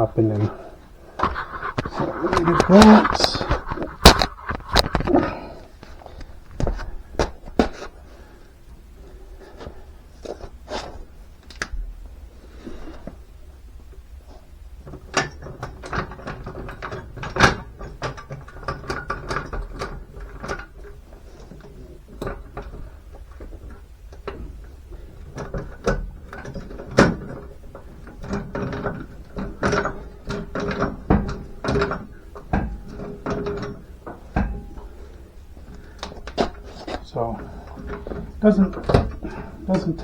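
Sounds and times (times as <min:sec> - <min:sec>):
floor jack clanking and clicking: 0:01.1 - 0:08.0, 0:14.3 - 0:40.0.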